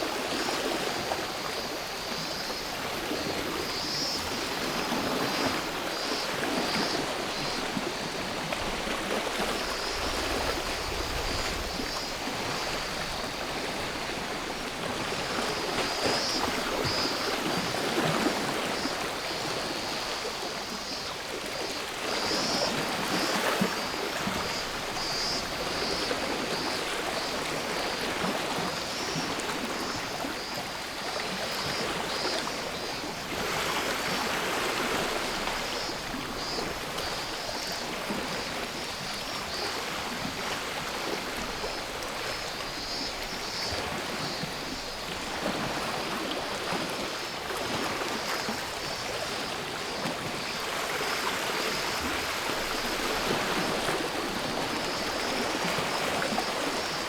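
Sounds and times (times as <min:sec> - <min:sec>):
cicadas buzzing: 0:00.0 - 0:57.0
sea waves washing ashore: 0:00.0 - 0:57.0.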